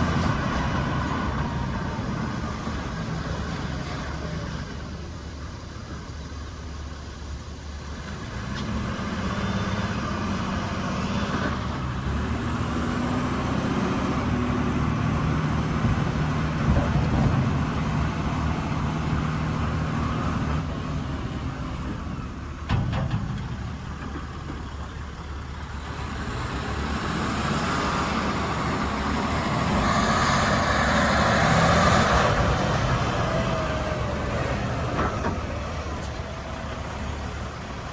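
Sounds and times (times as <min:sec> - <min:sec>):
dump truck diesel engine running: 0:00.0 - 0:37.9.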